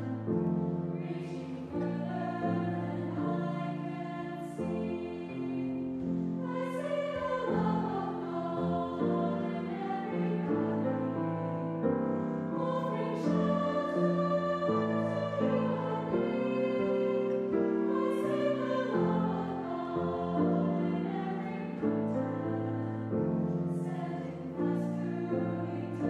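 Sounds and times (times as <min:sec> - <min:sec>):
church choir singing a hymn: 0:00.0 - 0:26.0
piano accompaniment: 0:00.0 - 0:26.0.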